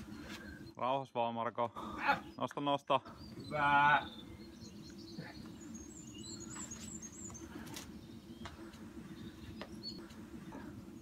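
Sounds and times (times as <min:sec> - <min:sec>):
small bird chirping: 0:02.0 - 0:11.0.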